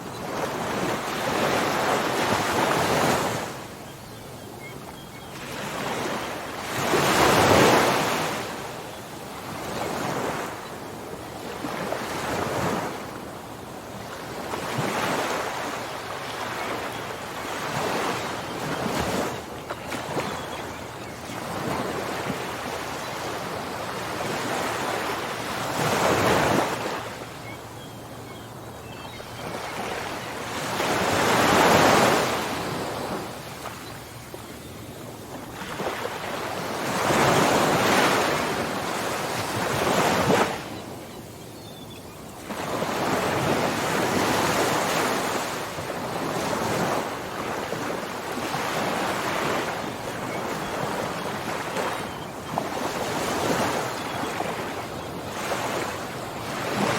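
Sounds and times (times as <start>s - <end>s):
ocean waves breaking on shore: 0.0s - 56.9s.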